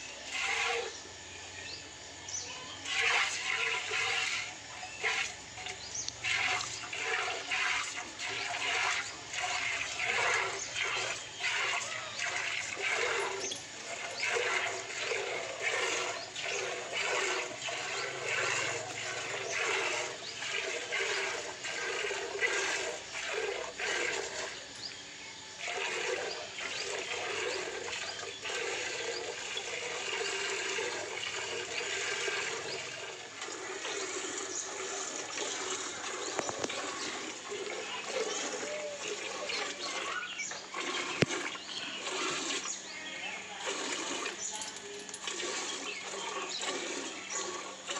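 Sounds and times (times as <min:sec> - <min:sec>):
milk squirting into steel bucket: 0:02.8 - 0:24.7, 0:25.6 - 0:47.9.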